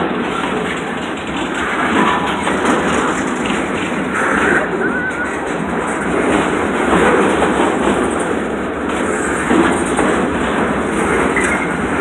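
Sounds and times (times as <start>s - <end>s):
steel wheels rolling on rail: 0.0s - 12.0s.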